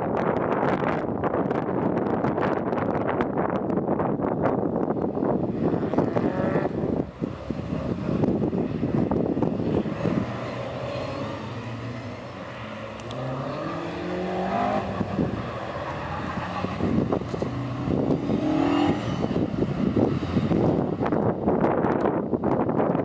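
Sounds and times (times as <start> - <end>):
wind buffeting microphone: 0.0 - 23.0
car engines revving: 4.5 - 23.0.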